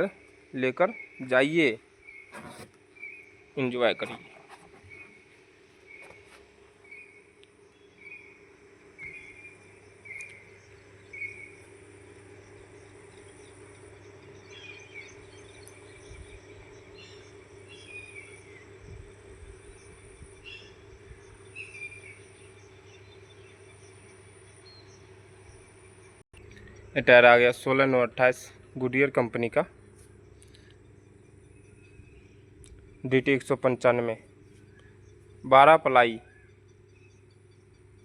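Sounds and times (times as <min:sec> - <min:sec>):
birds calling: 0:00.0 - 0:38.0
low hum: 0:02.3 - 0:33.4.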